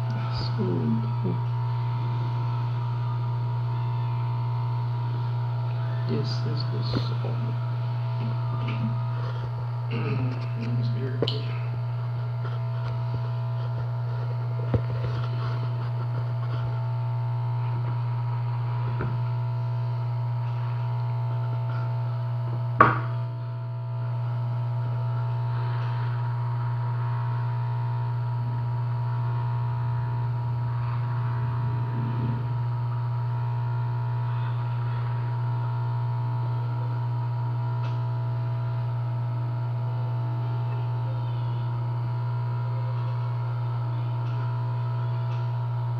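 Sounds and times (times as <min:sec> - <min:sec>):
high whine: 0:00.0 - 0:45.9
low electrical hum: 0:00.0 - 0:45.9.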